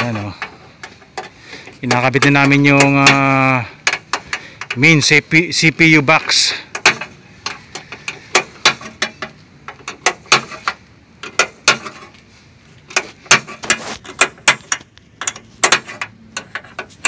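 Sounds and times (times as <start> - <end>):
wrench clicking on bolts: 0.0 - 5.1, 6.3 - 12.2, 12.9 - 17.0.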